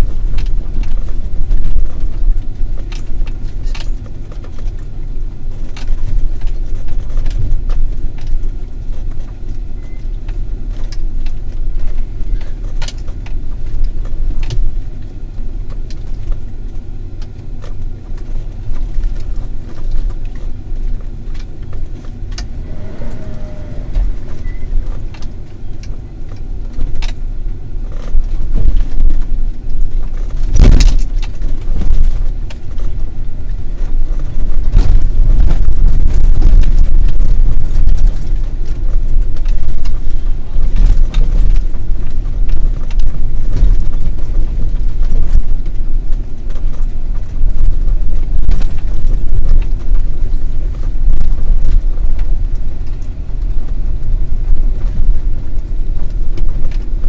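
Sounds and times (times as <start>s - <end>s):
engine and tyre rumble: 0.0s - 57.0s
knocks and rattles over bumps: 0.0s - 57.0s.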